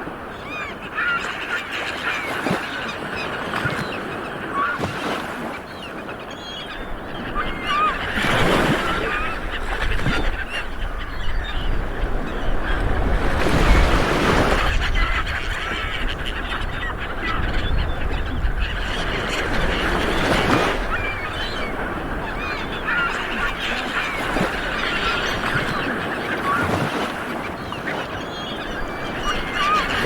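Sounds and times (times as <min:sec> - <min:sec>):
birds calling: 0:00.1 - 0:30.0.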